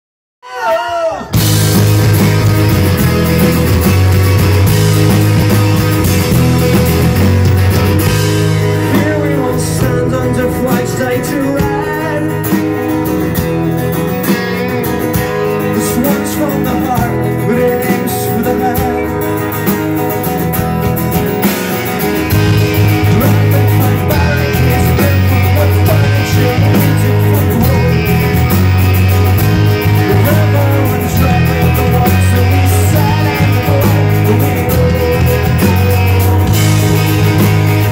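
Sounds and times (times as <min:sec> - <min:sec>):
punk rock band playing live: 0:01.2 - 0:37.9.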